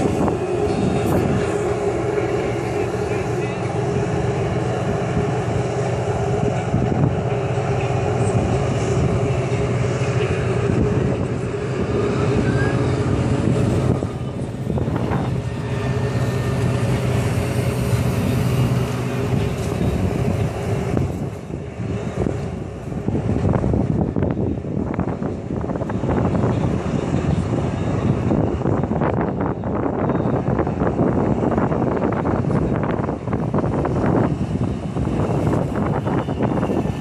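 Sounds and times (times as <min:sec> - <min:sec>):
watercraft engine drone: 0:00.0 - 0:37.0.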